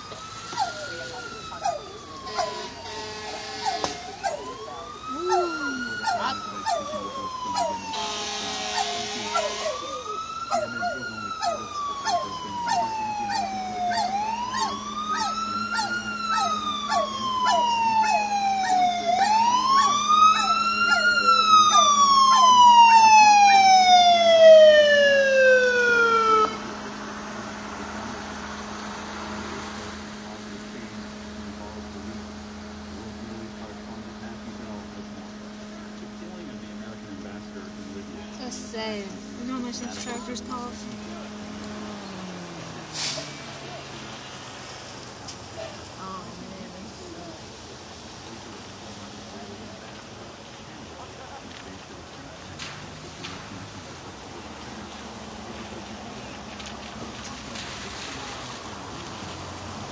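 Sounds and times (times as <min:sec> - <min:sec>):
fire engine siren wailing: 0:00.0 - 0:59.9.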